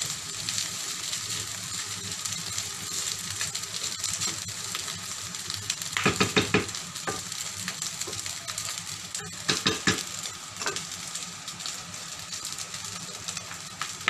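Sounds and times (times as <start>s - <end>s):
rice sizzling in a pan: 0.0s - 14.0s.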